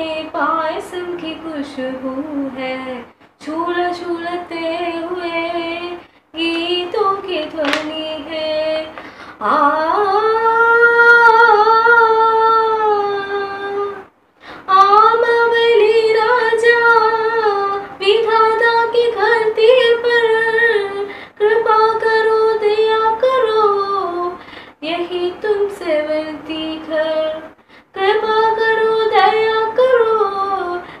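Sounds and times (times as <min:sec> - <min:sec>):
girl singing unaccompanied: 0:00.0 - 0:31.0.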